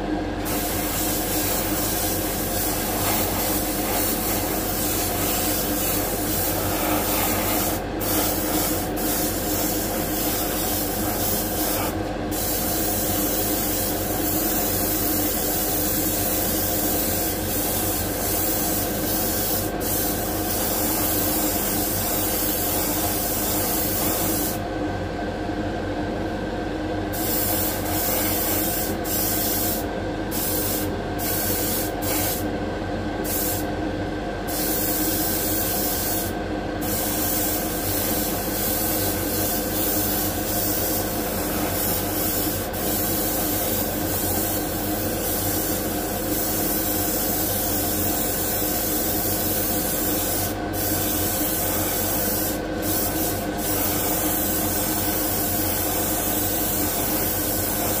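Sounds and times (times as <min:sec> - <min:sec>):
steady motor hum: 0:00.0 - 0:58.0
airbrush spraying hiss: 0:00.4 - 0:24.6, 0:27.1 - 0:32.4, 0:33.2 - 0:33.7, 0:34.5 - 0:58.0.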